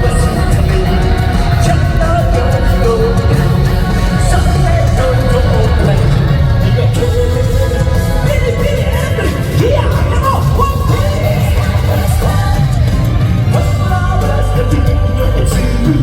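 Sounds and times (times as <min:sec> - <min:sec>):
live rock band playing: 0:00.0 - 0:16.0
man singing and yelling: 0:00.0 - 0:16.0.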